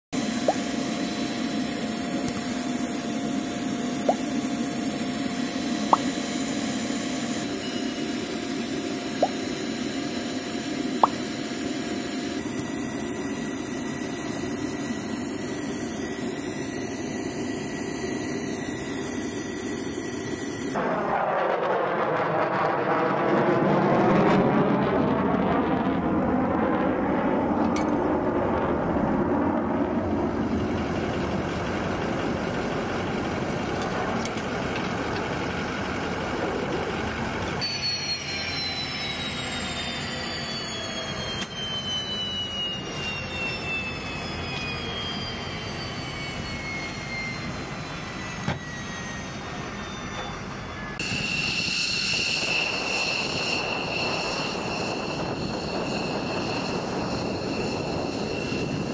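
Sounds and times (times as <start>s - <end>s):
high turbine whine: 0.0s - 58.9s
jet engine noise: 0.1s - 58.9s.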